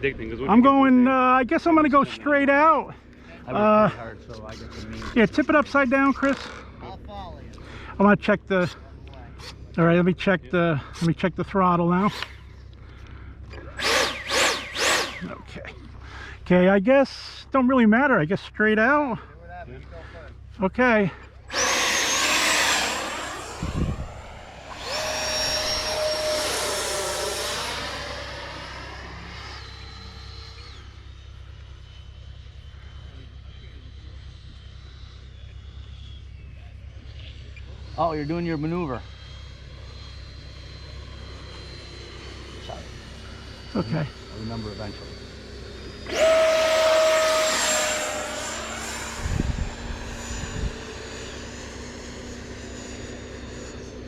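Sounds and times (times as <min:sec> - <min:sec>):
model jet high-pitched whine: 0:00.0 - 0:54.0.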